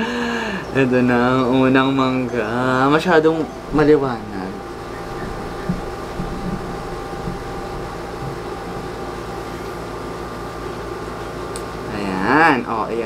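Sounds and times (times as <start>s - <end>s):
steady machine hum with hiss: 0.0s - 13.0s.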